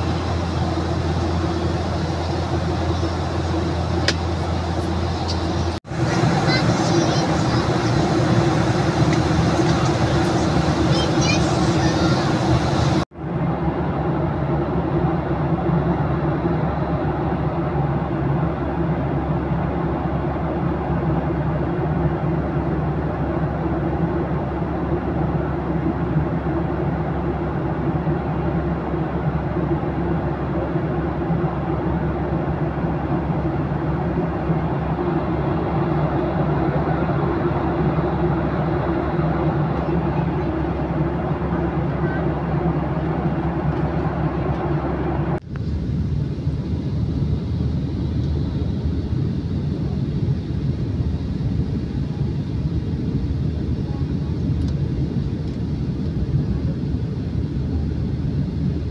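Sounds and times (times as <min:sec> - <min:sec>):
airplane cabin engine rush: 0:00.0 - 0:58.9.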